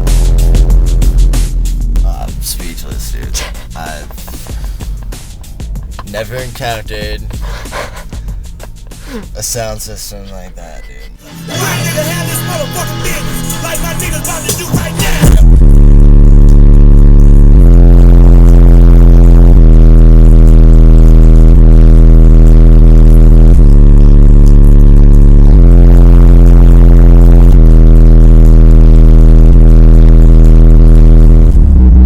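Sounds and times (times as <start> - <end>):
deep bass from subwoofers: 0.0 - 9.4, 11.8 - 32.0.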